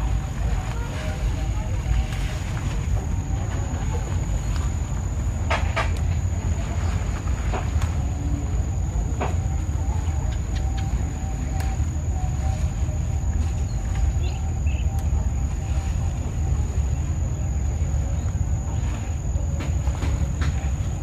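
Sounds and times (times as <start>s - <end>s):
high whine: 0.0s - 21.0s
low rumble: 0.0s - 21.0s.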